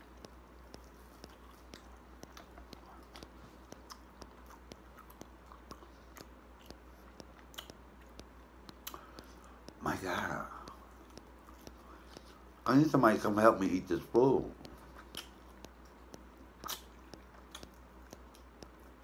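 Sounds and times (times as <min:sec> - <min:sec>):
man chewing: 0:00.0 - 0:12.7, 0:14.0 - 0:19.0.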